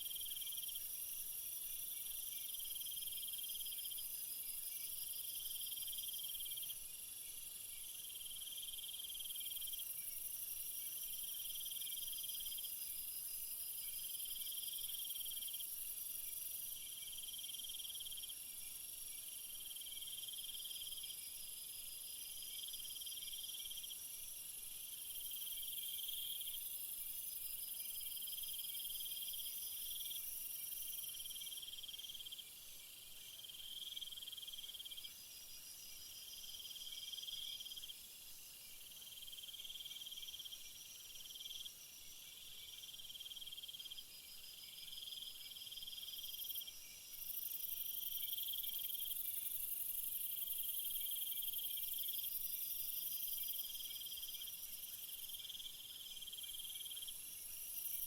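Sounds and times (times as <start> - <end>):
lower pulsed insect trill: 0.0 - 58.0.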